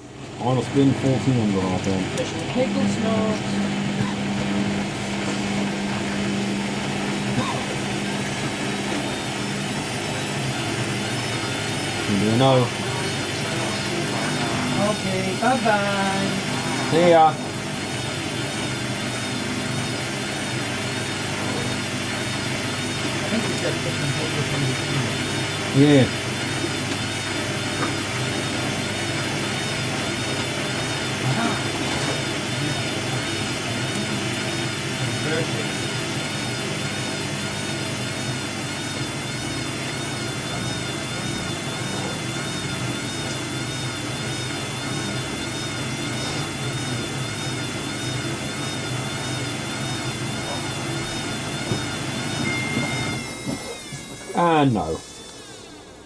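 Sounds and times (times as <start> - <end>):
washer dryer motor hum: 0.0 - 56.0.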